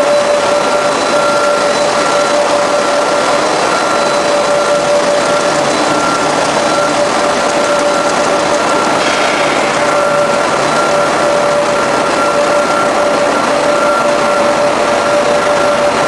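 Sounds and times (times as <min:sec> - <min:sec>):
machine running with high whine: 0:00.0 - 0:16.0.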